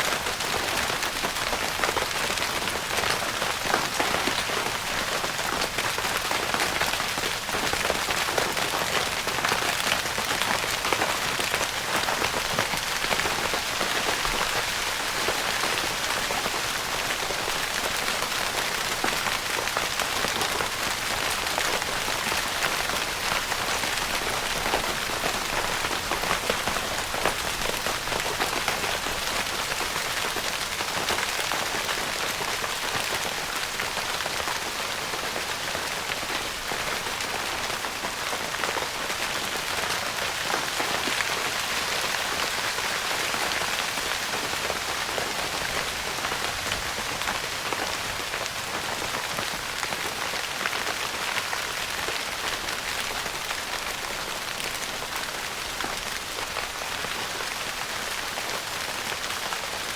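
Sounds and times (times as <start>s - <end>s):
rain pattering on tent fabric: 0.0s - 59.9s.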